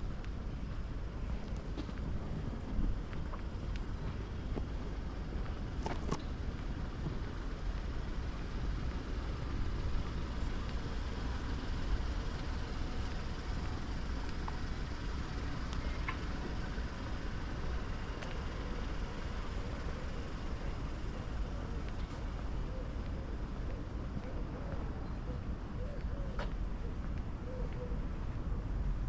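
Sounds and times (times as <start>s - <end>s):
low traffic rumble: 0.0s - 29.0s.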